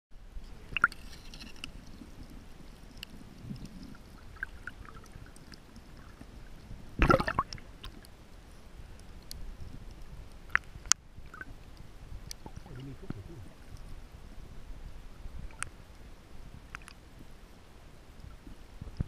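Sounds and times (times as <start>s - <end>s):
water rushing over camera: 0.2s - 19.0s
underwater clicks and crackles: 0.4s - 8.3s, 8.9s - 14.0s, 15.4s - 17.3s, 18.1s - 19.0s
muffled underwater rumble: 1.5s - 19.0s.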